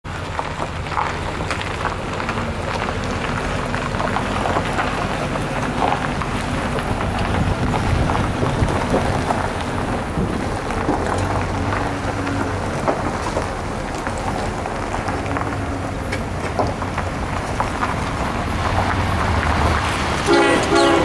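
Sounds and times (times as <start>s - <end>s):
distant diesel locomotives droning: 0.1s - 21.0s
wind buffeting microphone: 0.2s - 21.0s.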